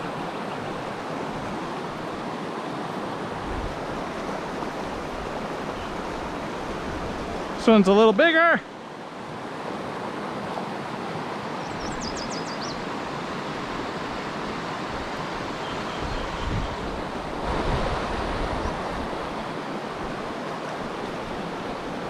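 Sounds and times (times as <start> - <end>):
wind gusts on microphone: 0.0 - 7.9, 11.3 - 22.0
fast stream rushing: 0.0 - 22.0.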